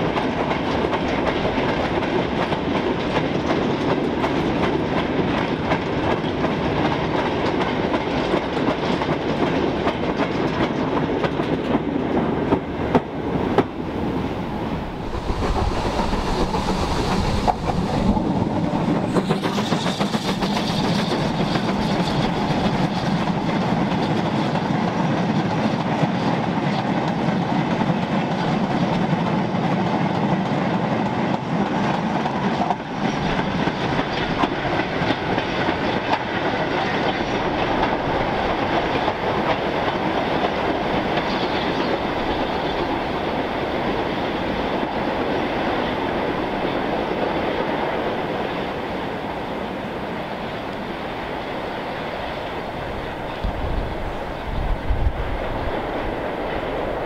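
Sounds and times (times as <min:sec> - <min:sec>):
steam locomotive passing: 0:00.0 - 0:57.0.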